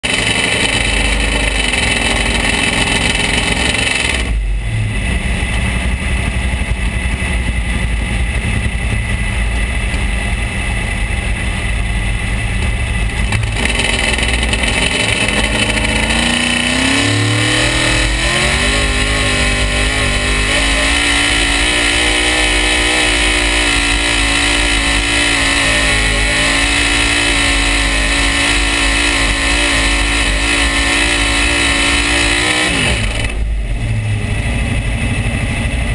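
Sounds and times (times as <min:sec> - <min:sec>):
truck engine revving: 0:00.0 - 0:35.9.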